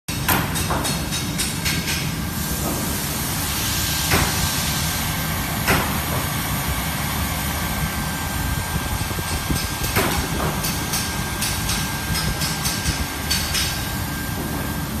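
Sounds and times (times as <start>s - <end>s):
hot-air blower hissing: 2.2s - 15.0s.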